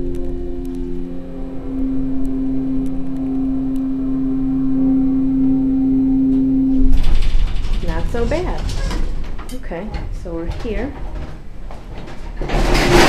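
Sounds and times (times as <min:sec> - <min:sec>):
elevator motor hum: 0:00.0 - 0:13.0
low rumble: 0:00.0 - 0:13.0.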